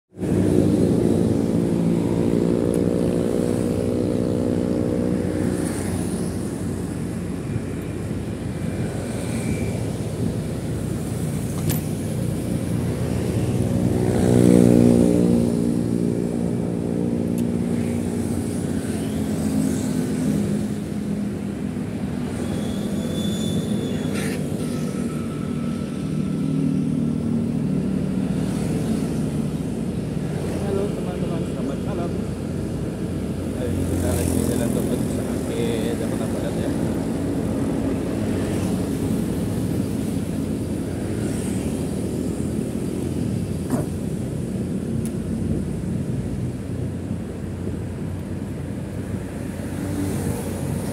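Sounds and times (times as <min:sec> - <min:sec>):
road and wind noise: 0:00.1 - 0:50.9.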